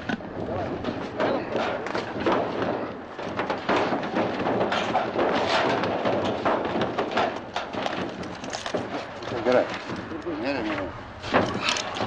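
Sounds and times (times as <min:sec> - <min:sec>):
shoes scraping on roofing: 0:00.1 - 0:12.0.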